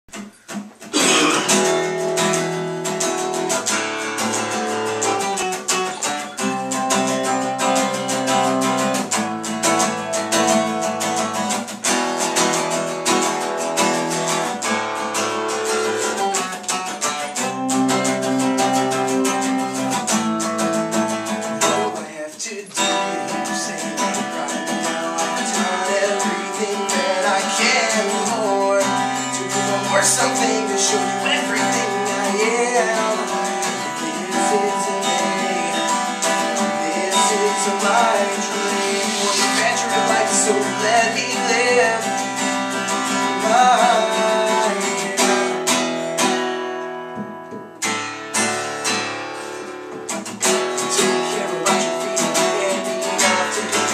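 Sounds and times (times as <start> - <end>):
acoustic guitar strumming: 0.1 - 53.9.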